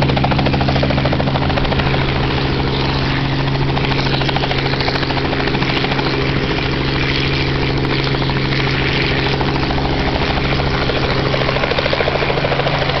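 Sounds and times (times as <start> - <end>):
helicopter hovering: 0.0 - 13.0.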